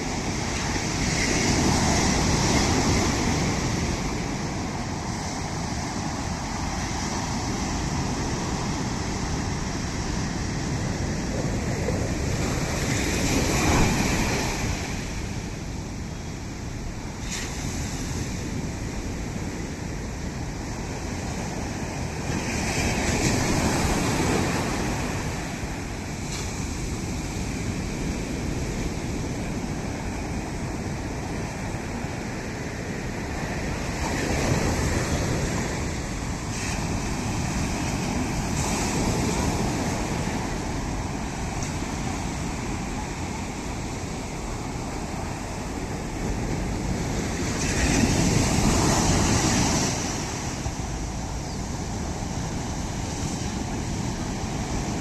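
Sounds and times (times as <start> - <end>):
ocean waves breaking: 0.0 - 55.0
wind buffeting microphone: 0.0 - 55.0.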